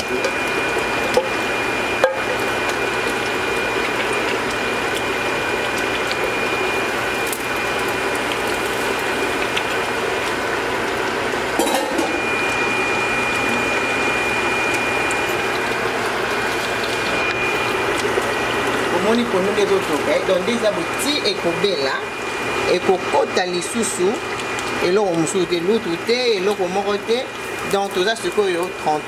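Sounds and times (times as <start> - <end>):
stew bubbling and hissing: 0.0 - 29.0.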